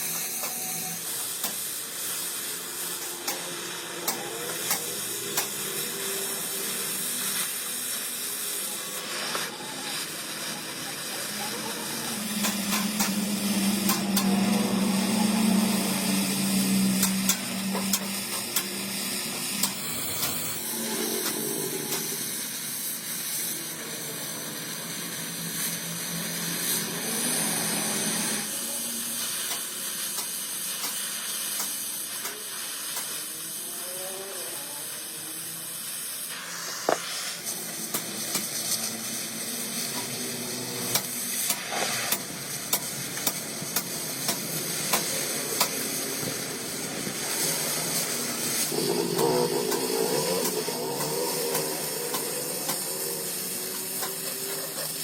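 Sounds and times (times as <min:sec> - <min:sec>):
welding arc frying crackle: 0:00.0 - 0:55.0.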